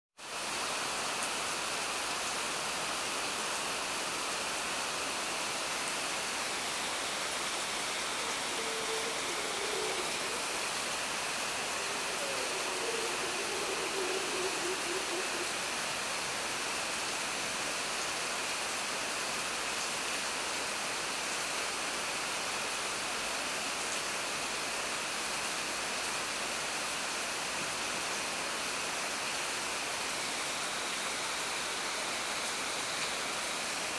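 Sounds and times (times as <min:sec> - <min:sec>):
heavy rain on foliage: 0:00.2 - 0:33.9.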